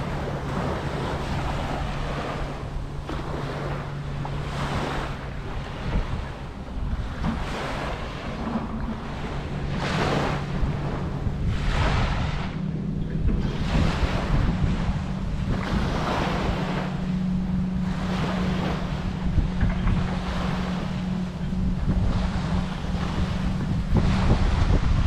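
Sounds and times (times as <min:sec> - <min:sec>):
low engine hum: 0:00.0 - 0:25.0
rushing water: 0:00.0 - 0:25.0
wind buffeting microphone: 0:00.0 - 0:25.0.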